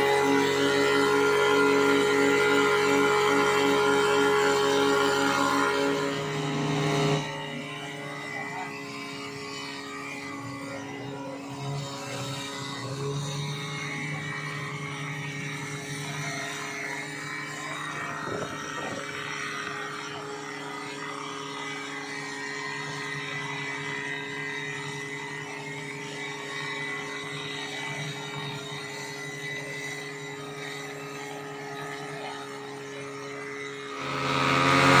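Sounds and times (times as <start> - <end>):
pump engine droning: 0.0 - 35.0.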